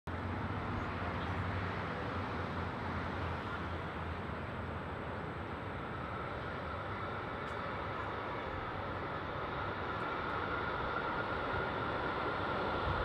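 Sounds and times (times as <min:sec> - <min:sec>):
constant low hum: 0:00.1 - 0:13.0
distant vehicle rumble: 0:00.1 - 0:13.0.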